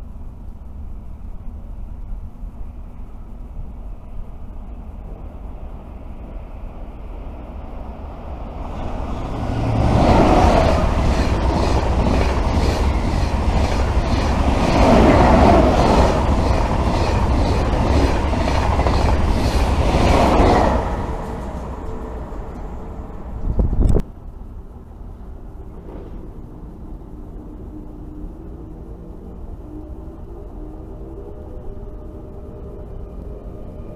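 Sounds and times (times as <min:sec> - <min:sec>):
train passing: 0:00.0 - 0:33.9.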